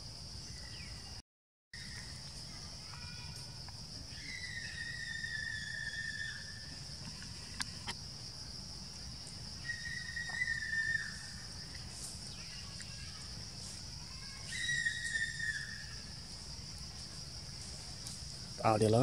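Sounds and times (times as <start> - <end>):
high insect drone: 1.8 - 19.0.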